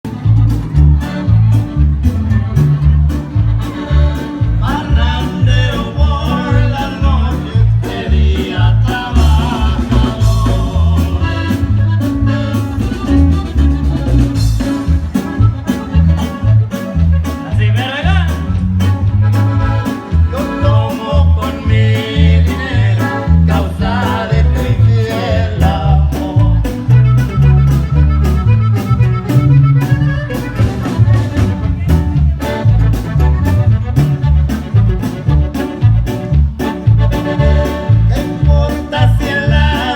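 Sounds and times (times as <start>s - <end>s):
latin dance band music: 0.0s - 39.9s
thumping bass beat: 0.0s - 39.9s.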